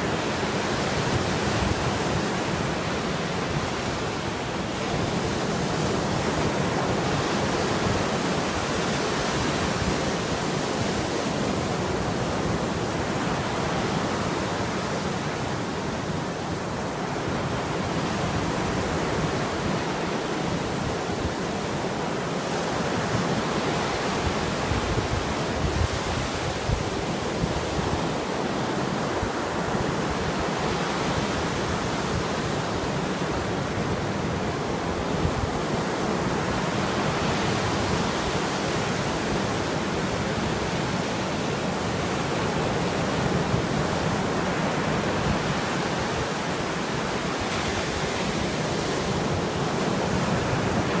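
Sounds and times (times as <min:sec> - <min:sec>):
surf washing on shore: 0:00.0 - 0:51.0.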